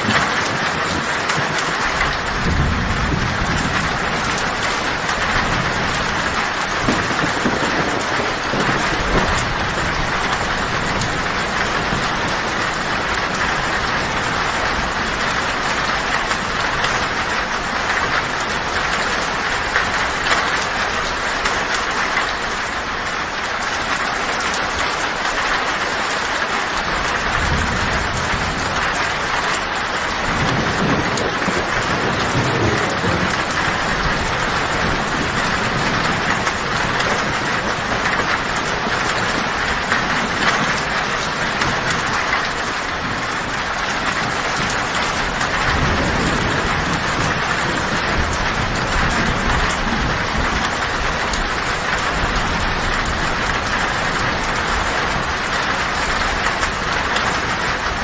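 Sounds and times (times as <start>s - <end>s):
heavy rain on a tin roof: 0.0s - 58.0s
thunder rumbling: 0.0s - 58.0s.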